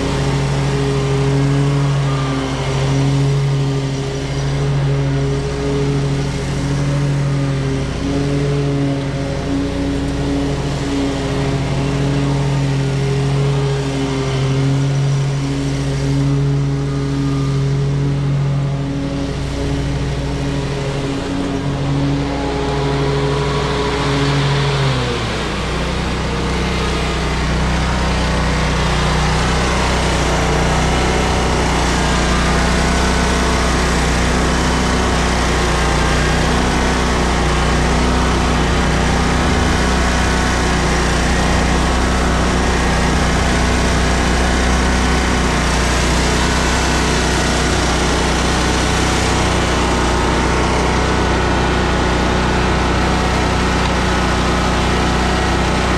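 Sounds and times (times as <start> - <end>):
mower engine running: 0.0 - 55.9.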